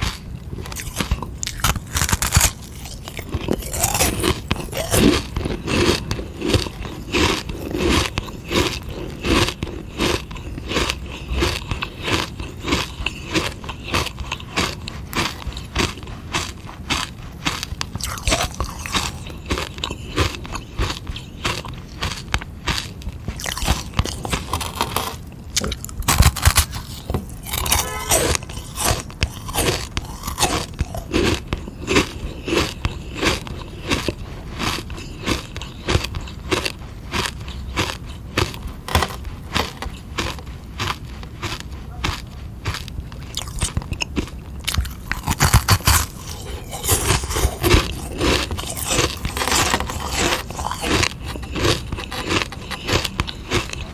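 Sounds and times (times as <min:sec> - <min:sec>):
ice lolly crunching: 0:00.0 - 0:53.9.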